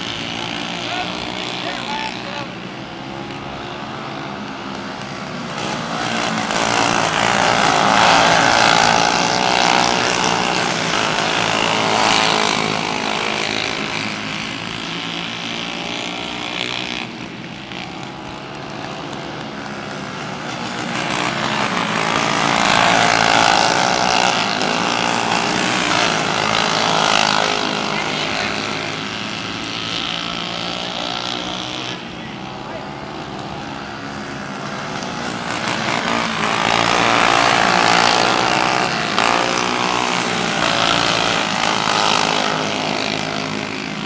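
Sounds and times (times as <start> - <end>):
kart engines racing: 0.0 - 44.0.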